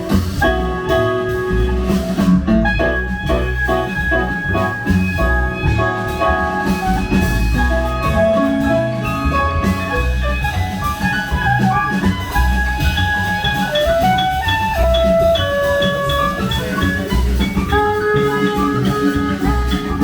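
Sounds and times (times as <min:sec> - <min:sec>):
jazz band playing: 0:00.0 - 0:20.0.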